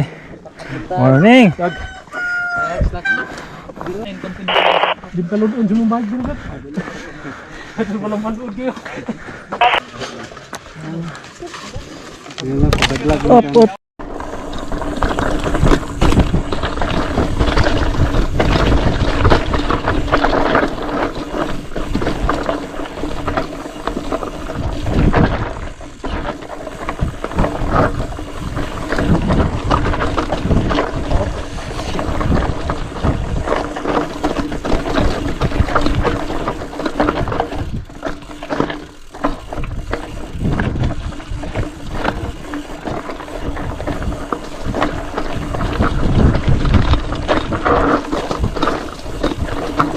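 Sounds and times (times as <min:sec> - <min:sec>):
bike rattling over bumps: 0:00.0 - 0:04.5, 0:05.2 - 0:49.9
bike tyres on dirt: 0:00.0 - 0:49.9.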